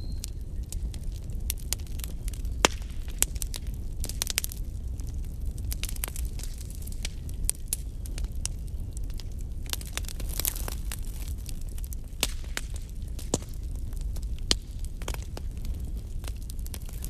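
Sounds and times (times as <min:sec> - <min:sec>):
burning wood crackling and popping: 0:00.0 - 0:17.0
low rumble of fire: 0:00.0 - 0:17.0.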